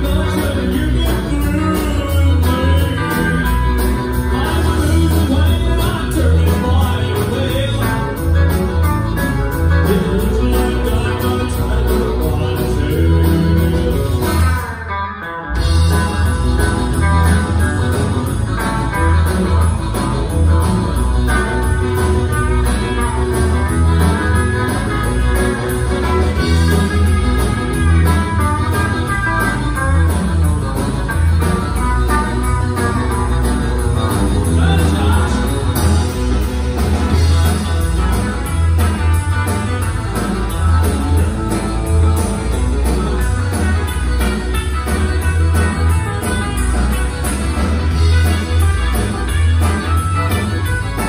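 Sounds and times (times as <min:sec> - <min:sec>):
country band playing: 0:00.0 - 0:51.0.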